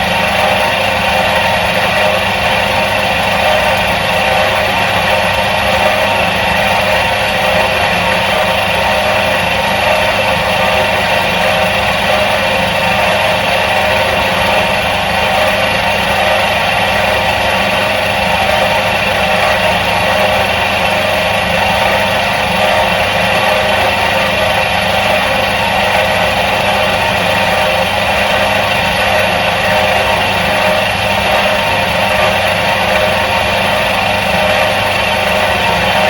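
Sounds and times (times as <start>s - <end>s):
washing machine motor humming: 0.0s - 36.0s.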